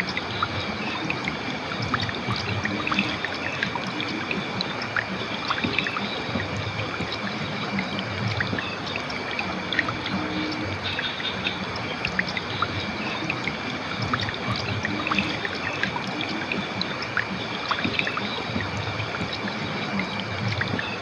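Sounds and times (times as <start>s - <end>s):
river flowing over rocks: 0.0s - 21.0s
small water splashes and drips: 0.0s - 21.0s.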